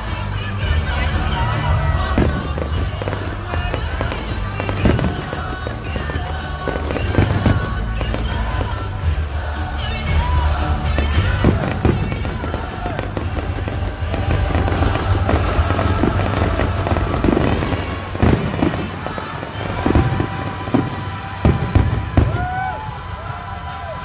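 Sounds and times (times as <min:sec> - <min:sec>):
fireworks booming and crackling: 0:00.0 - 0:24.0
music playing: 0:00.0 - 0:24.0.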